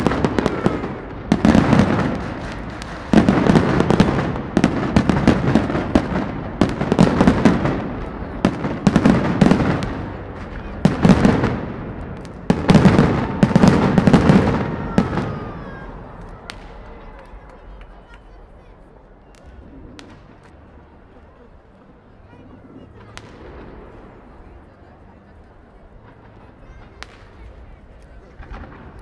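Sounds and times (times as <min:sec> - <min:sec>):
firework crackling: 0:00.0 - 0:25.0, 0:25.7 - 0:29.0.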